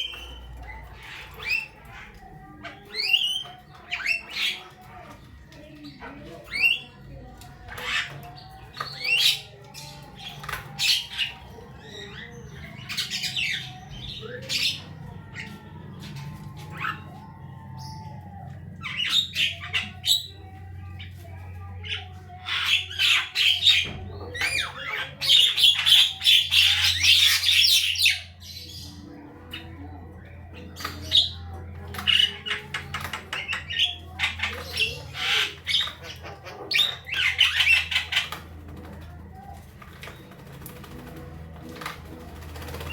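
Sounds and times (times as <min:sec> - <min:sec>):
bird squawking and chattering: 0:00.0 - 0:18.1, 0:18.8 - 0:21.1, 0:21.7 - 0:42.9.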